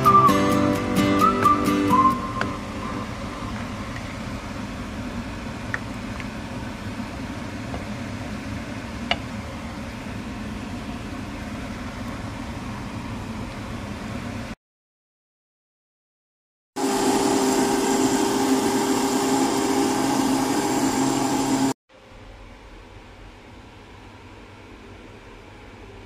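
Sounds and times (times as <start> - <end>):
sauce cooking hum and hiss: 0.0 - 14.6, 16.8 - 26.0.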